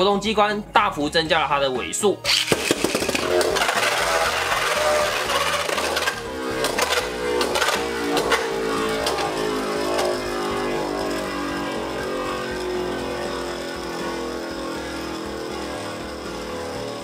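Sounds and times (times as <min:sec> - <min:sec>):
spinning top whirring: 0:02.3 - 0:17.0.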